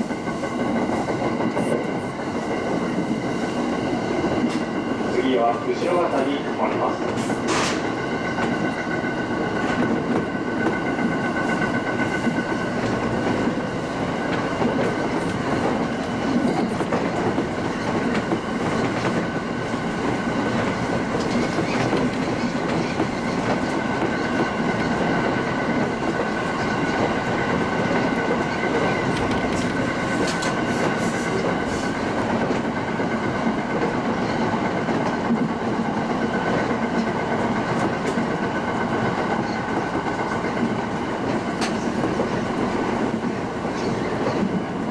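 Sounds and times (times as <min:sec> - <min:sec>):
rail joint clicks: 0:00.0 - 0:44.9
train wheels rumbling on rail: 0:00.0 - 0:44.9.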